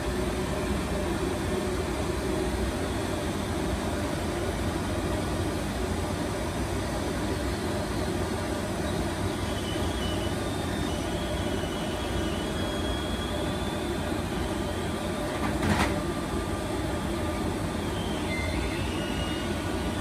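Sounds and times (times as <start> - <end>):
faint high whine: 0.0 - 15.5, 16.3 - 20.0
machine rollers running: 0.0 - 20.0.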